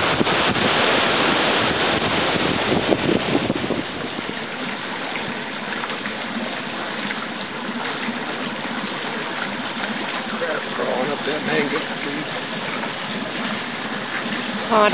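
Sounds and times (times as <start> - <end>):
surf: 0.0 - 14.9
water rushing past boat: 0.0 - 14.9
wind: 0.0 - 14.9.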